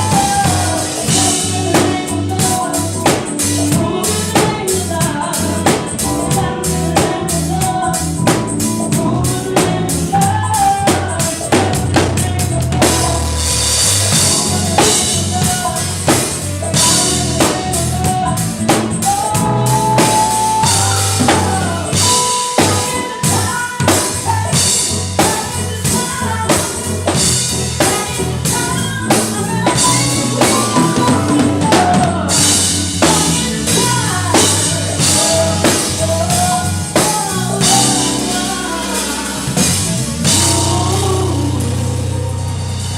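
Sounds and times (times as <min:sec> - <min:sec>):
bass line: 0:00.0 - 0:42.9
drum kit beat: 0:00.0 - 0:42.9
live band music: 0:00.0 - 0:42.9.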